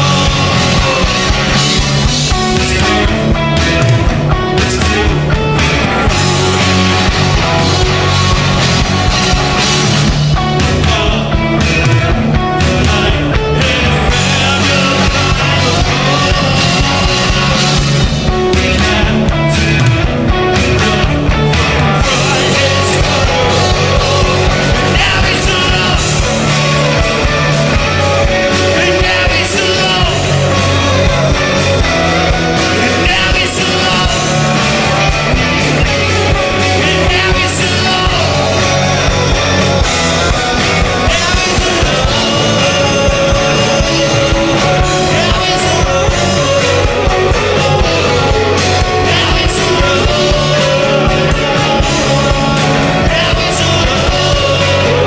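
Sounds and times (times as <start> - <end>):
drums: 0.0 - 55.0
guitar: 0.0 - 55.0
person singing: 0.0 - 55.0
punk rock band playing: 0.0 - 55.0.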